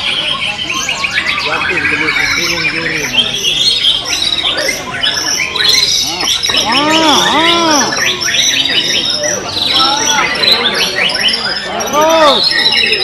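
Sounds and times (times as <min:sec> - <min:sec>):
birds whistling and trilling: 0:00.0 - 0:13.0.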